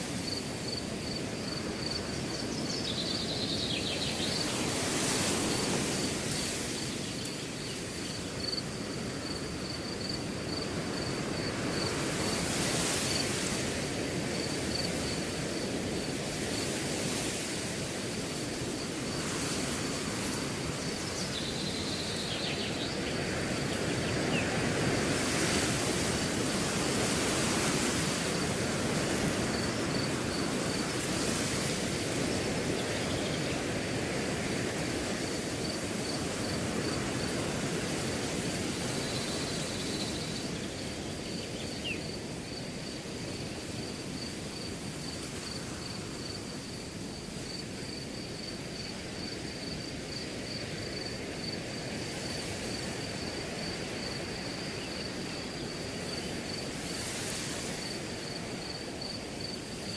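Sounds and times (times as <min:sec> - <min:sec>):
cricket chirping: 0:00.0 - 0:59.9
wind rustling through grass: 0:00.0 - 0:59.9.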